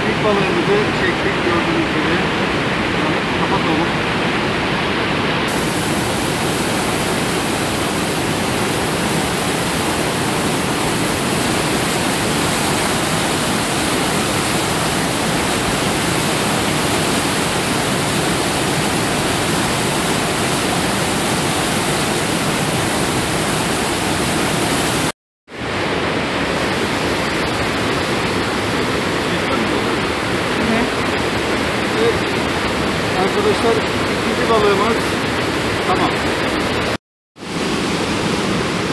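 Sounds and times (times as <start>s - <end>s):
river rushing through rapids: 0.0s - 38.9s.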